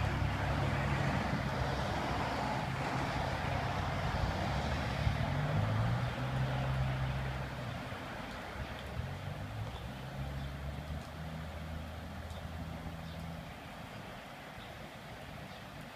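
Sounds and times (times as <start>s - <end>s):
tyres hissing on wet road: 0.0s - 15.9s.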